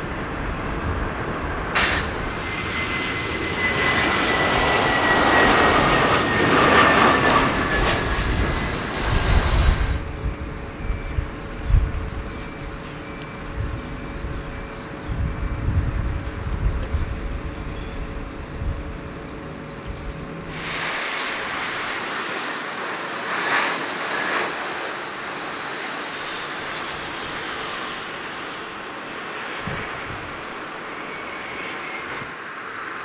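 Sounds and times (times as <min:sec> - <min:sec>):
jet engines rumbling and whining: 0:00.0 - 0:33.0.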